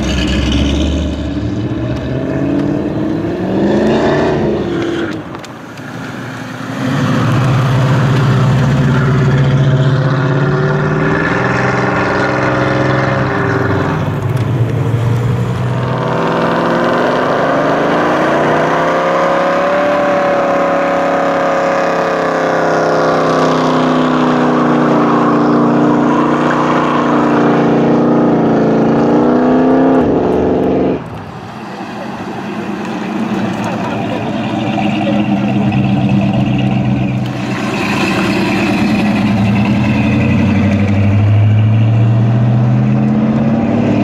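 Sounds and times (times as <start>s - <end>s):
car engine passing: 0.0s - 44.0s
car engine revving in burnout: 0.0s - 44.0s.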